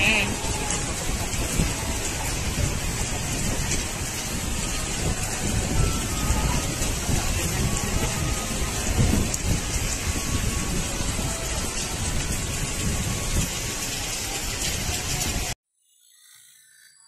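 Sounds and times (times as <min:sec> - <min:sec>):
heavy rain pouring: 0:00.0 - 0:15.6.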